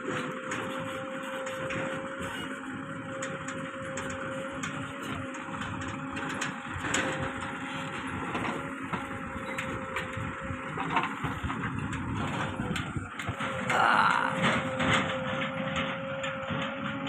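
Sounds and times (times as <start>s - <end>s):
backhoe diesel engine whining: 0.0s - 17.0s.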